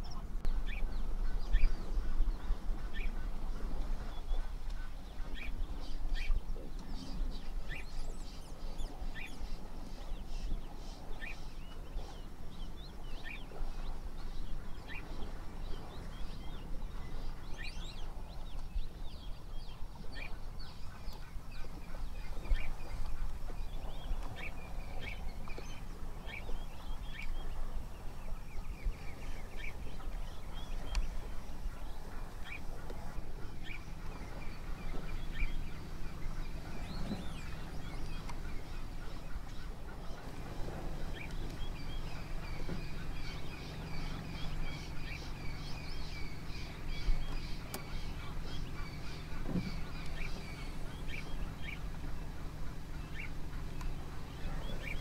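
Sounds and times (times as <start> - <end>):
birds chirping and calling: 0.0 - 55.0
low steady rumble: 0.0 - 55.0.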